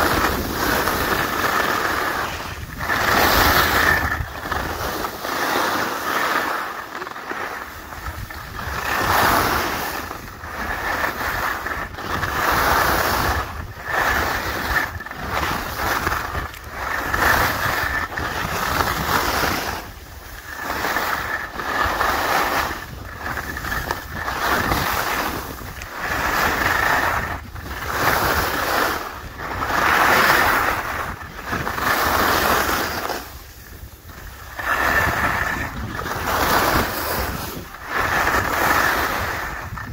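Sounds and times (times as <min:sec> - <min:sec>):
skis scraping over snow: 0:00.0 - 0:39.9
wind rumbling on microphone: 0:00.0 - 0:39.9.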